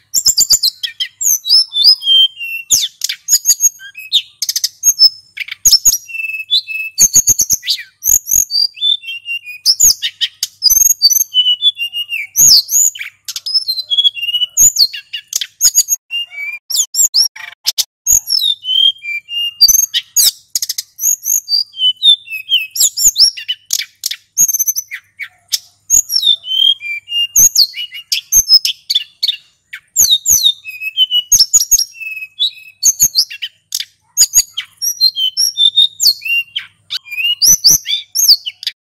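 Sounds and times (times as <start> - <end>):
bird chirping and whistling: 0.0 - 38.8.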